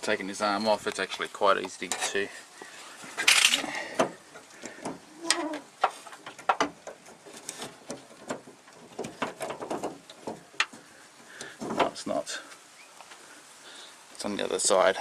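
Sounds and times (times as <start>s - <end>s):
scraping rustle: 0.4s - 14.9s.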